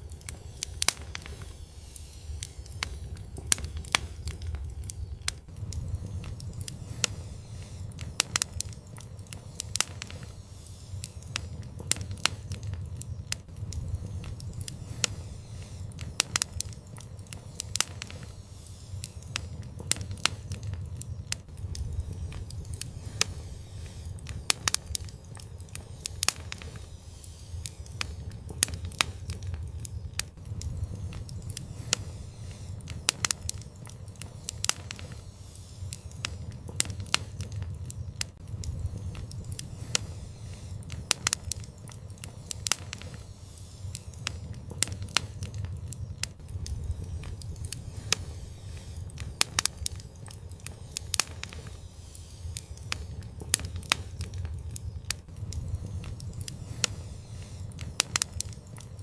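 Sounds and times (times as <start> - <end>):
low rumble of burning fire: 0.0 - 59.0
wood fire crackling and popping: 0.0 - 59.0.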